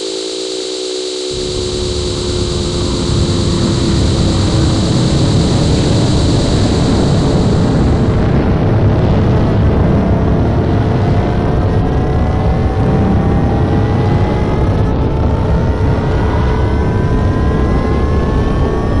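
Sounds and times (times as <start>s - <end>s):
spaceship engine rumble: 0.0s - 17.4s
rising whine: 0.0s - 19.0s.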